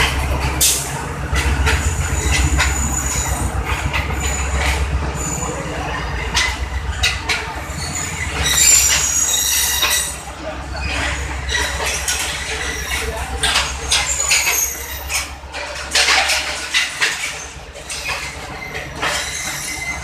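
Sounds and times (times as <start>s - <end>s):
faint high wheel squeals: 0.0s - 20.0s
rumble of wheels on rail: 0.0s - 20.0s
wheels clacking over rail joints: 0.0s - 20.0s.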